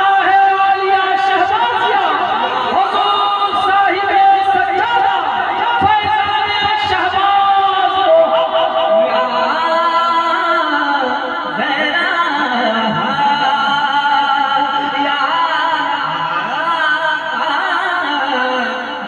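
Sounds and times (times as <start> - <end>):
man singing through a microphone: 0.0 - 19.0.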